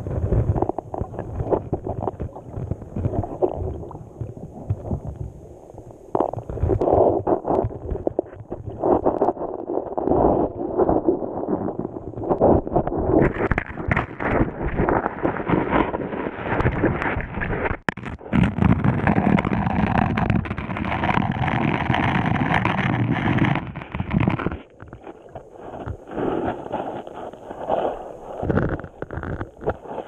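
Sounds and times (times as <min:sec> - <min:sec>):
muffled underwater river rushing: 0:00.0 - 0:30.0.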